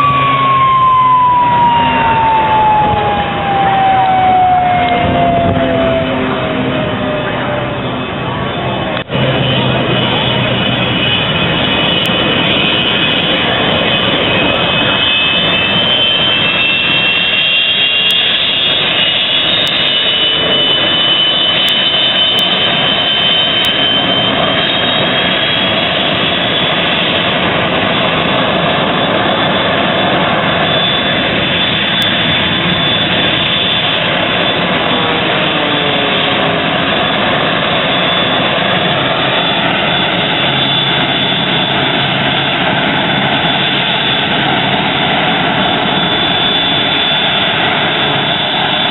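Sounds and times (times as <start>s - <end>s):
jet engine rush and whine: 0.0s - 48.9s.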